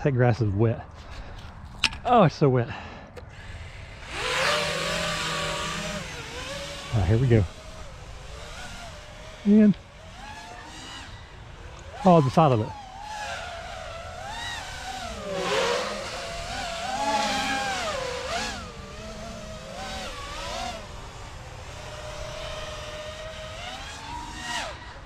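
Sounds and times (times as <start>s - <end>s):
quadcopter motors whining: 0.8s - 25.0s.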